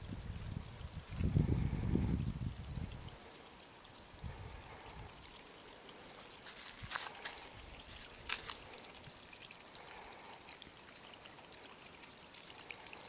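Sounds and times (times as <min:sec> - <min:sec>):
mud drips and pops: 0:00.0 - 0:13.0
water trickling: 0:00.0 - 0:13.0.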